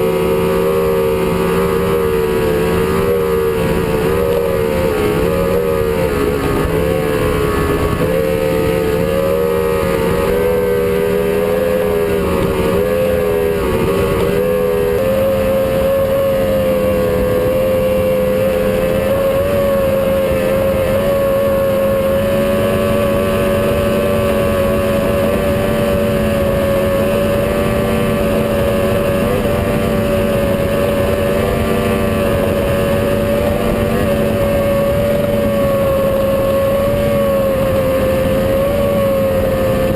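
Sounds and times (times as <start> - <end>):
motorboat engine: 0.0 - 39.9
rushing wind and water: 0.0 - 39.9.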